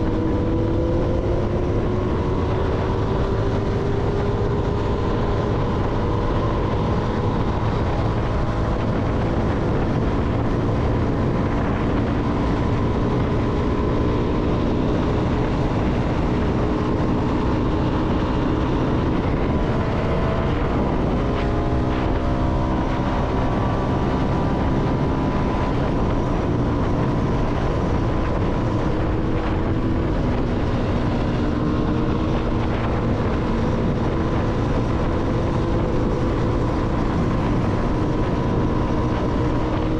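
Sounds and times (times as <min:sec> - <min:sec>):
low rush: 0:00.0 - 0:39.9
motorcycle engine running: 0:00.0 - 0:39.9.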